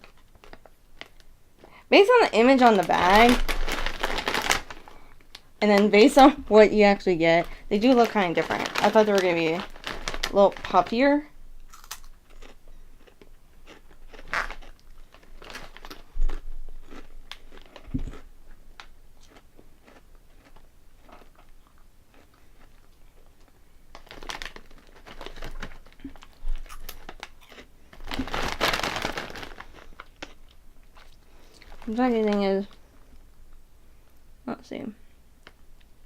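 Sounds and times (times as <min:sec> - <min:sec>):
crunching and chewing snacks: 0:00.0 - 0:01.7, 0:02.6 - 0:05.5, 0:07.4 - 0:10.9, 0:11.6 - 0:32.8.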